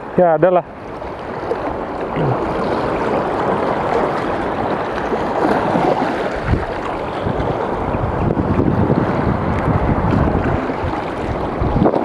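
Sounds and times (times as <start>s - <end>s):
small waves washing over rocks: 0.8s - 12.0s
wind on microphone: 0.8s - 12.0s.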